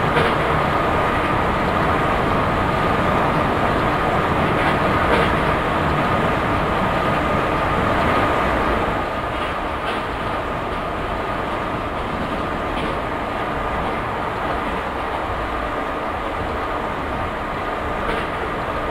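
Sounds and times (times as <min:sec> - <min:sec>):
train rolling at speed: 0:00.0 - 0:18.9.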